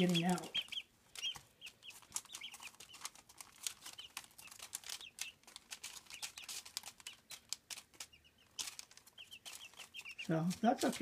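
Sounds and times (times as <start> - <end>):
chicks pecking taps: 0.0 - 11.0
chicks peeping: 0.0 - 11.0
paper crinkling: 0.0 - 11.0.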